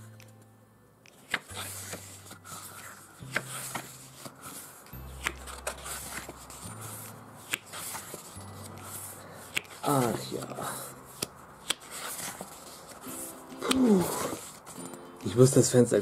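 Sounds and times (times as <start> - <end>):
quiet background music: 0.0 - 16.0
photobook pages turning: 1.0 - 15.4.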